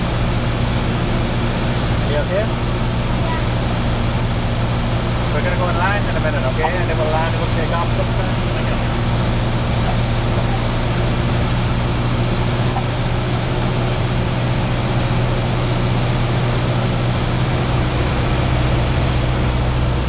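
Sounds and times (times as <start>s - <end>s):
airplane engine droning in cabin: 0.0s - 20.0s.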